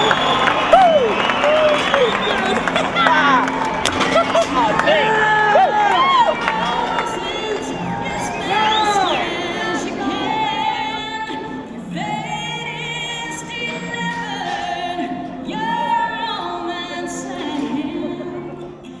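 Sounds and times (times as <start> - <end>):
person singing long notes with vibrato: 0.0 - 19.0.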